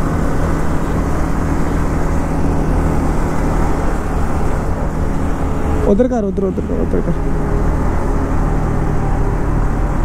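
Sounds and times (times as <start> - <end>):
road noise: 0.0 - 10.0
wind: 0.0 - 10.0.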